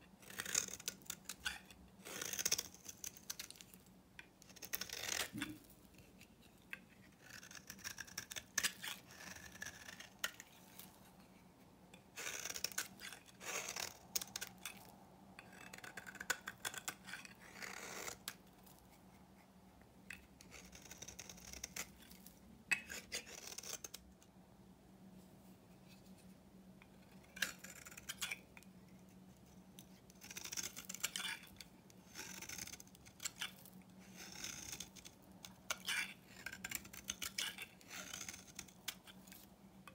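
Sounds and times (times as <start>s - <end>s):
knife blade scraping soap: 0.2s - 19.2s, 20.0s - 24.0s, 26.8s - 39.9s.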